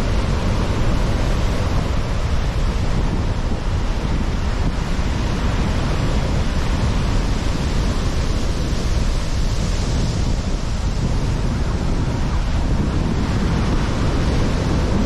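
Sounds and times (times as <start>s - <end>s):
surf crashing on stormy sea: 0.0s - 15.0s
wind buffeting microphone: 0.0s - 15.0s.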